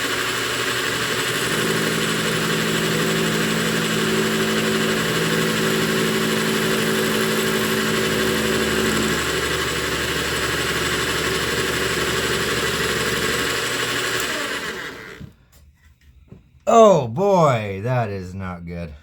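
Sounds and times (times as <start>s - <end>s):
metal lathe humming and whining: 0.0s - 15.3s.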